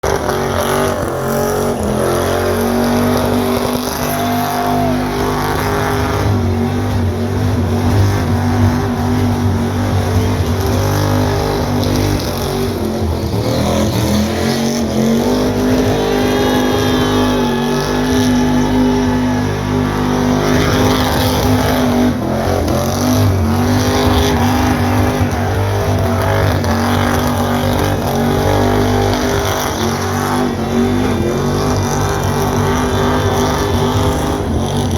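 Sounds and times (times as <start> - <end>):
engine revving high: 0.0 - 34.9
tires spinning: 0.0 - 34.9.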